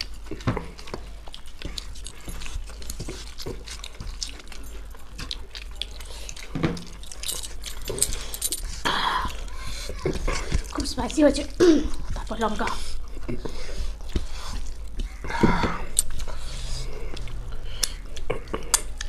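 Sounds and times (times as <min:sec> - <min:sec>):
fingers mixing food on plates: 0:00.0 - 0:19.0
people chewing and lip smacking: 0:00.0 - 0:19.0.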